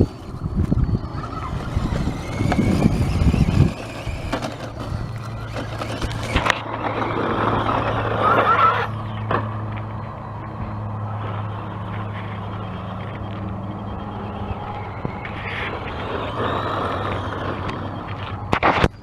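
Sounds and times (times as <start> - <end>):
low rumbling: 0.0 - 19.0
radio-controlled car motor whirring: 0.0 - 19.0.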